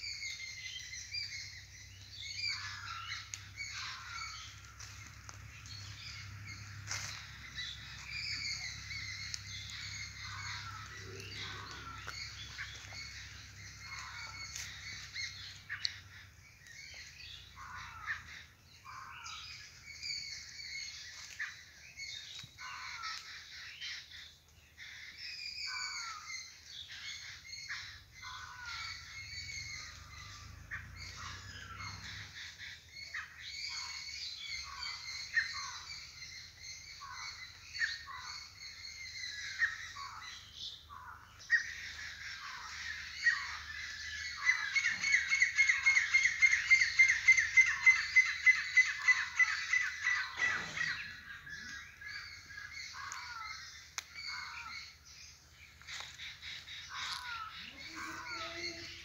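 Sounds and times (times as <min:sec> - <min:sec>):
birds chirping and squawking: 0:00.0 - 0:59.0
rapid repeated bird notes: 0:00.0 - 0:59.0.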